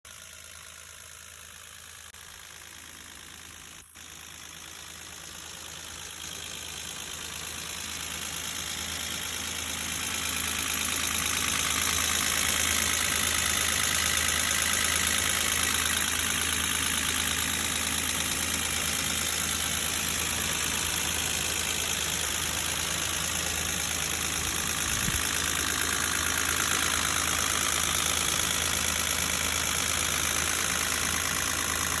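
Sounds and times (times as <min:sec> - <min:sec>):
car engine idling: 0:00.1 - 0:32.0.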